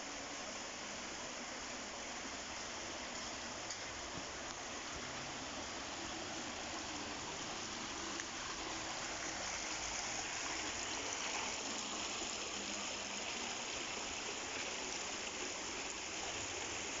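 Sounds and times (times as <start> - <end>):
shallow water running: 1.8 - 17.0.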